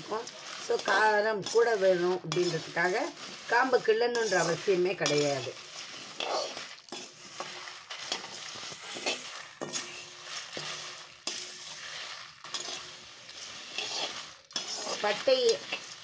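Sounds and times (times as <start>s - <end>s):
seeds scraping in a pan: 0.0s - 16.0s
spatula clinking on metal: 0.2s - 2.9s, 3.8s - 16.0s.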